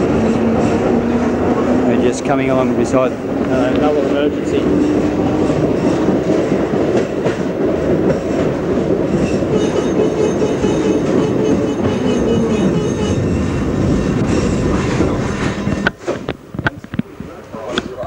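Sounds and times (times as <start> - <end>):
tram running: 0.0 - 18.0.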